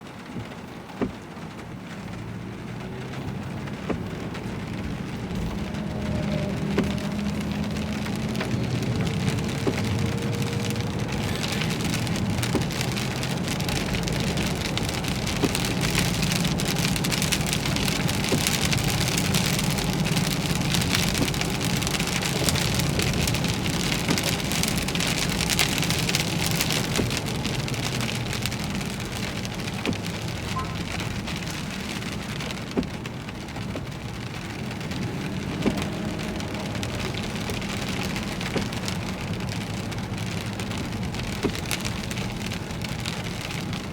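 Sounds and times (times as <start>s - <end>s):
heavy rain on a vehicle: 0.0s - 43.9s
sharp raindrop hits: 0.1s - 43.9s.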